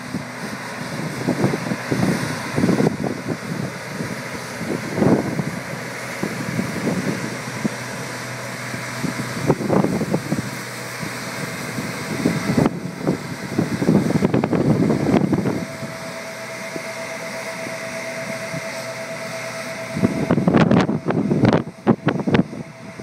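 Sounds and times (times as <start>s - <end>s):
wind buffeting microphone: 0.0s - 16.2s, 19.8s - 23.0s
sprayer machine drone: 0.0s - 23.0s.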